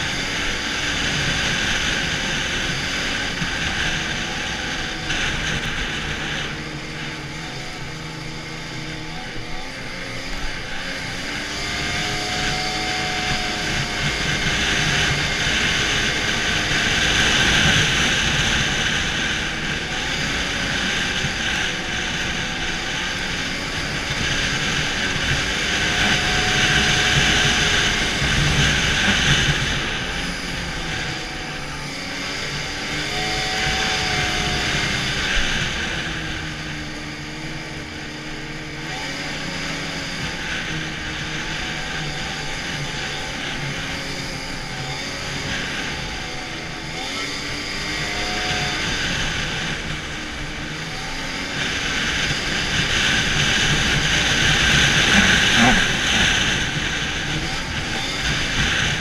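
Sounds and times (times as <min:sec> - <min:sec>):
snowmobile engine: 0:00.0 - 0:59.0.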